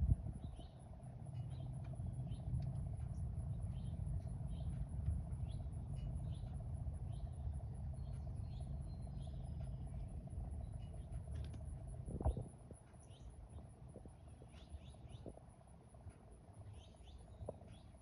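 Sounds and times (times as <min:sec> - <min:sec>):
low rumble: 0:00.0 - 0:18.0
songbirds chirping: 0:00.1 - 0:18.0.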